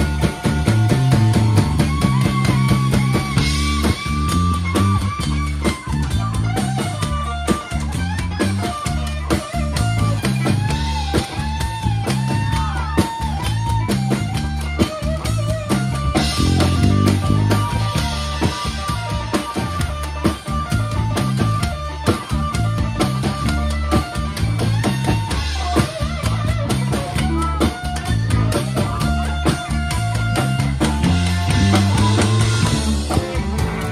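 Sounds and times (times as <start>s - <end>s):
bass guitar: 0.0s - 33.9s
drum kit: 0.0s - 33.9s
electric guitars: 0.0s - 33.9s
swooping guitar lead line: 0.0s - 33.9s.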